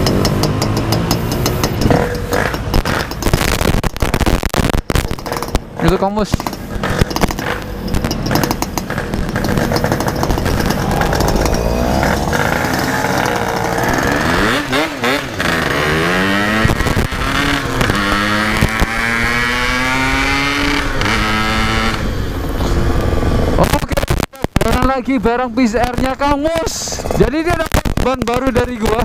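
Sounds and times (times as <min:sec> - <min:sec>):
motorcycle engine accelerating: 0:00.0 - 0:24.1.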